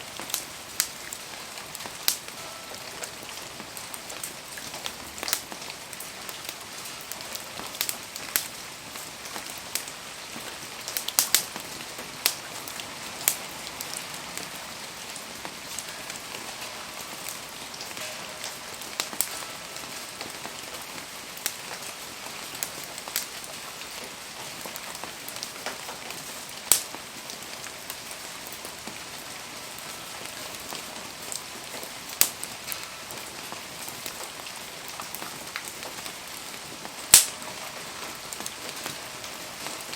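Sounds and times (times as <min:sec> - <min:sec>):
campfire popping and crackling: 0:00.0 - 0:39.9
rain falling: 0:00.0 - 0:39.9.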